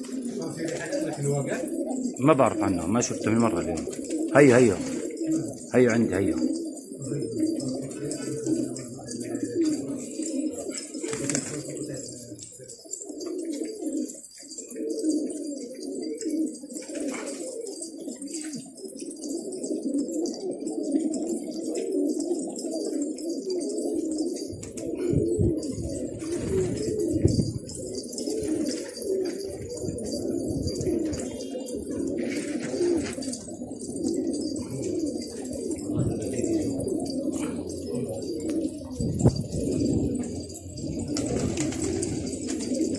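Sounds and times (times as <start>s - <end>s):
pigeons cooing: 0.0s - 42.9s.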